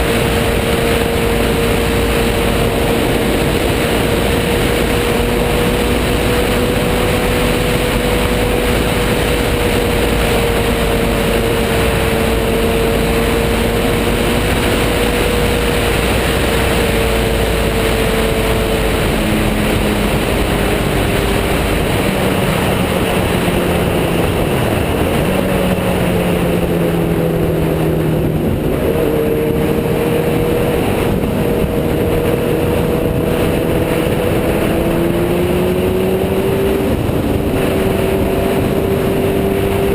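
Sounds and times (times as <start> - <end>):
loud wind noise: 0.0 - 39.9
motorcycle engine running: 0.0 - 39.9.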